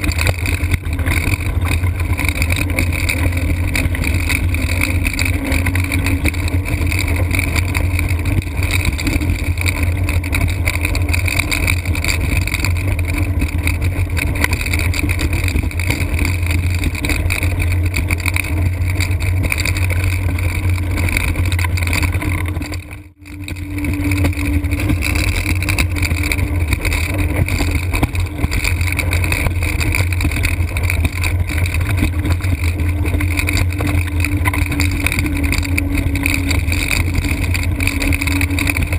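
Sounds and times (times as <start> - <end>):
faint steady whine: 0.0 - 38.9
wheels rolling on pavement: 0.0 - 38.9.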